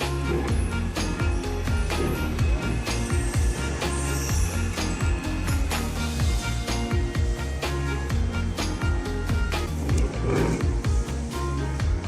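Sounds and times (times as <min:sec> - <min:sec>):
background music with steady beat: 0:00.0 - 0:12.0
deep sliding bass: 0:00.0 - 0:12.0.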